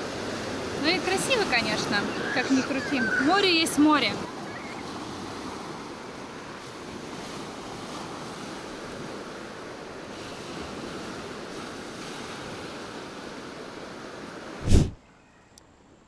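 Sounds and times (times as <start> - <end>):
surf washing onto beach: 0.0 - 15.0
wind: 0.0 - 16.0.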